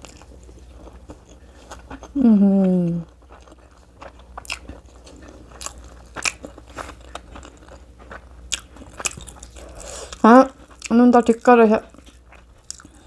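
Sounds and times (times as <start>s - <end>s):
chewing food: 0.0s - 13.0s.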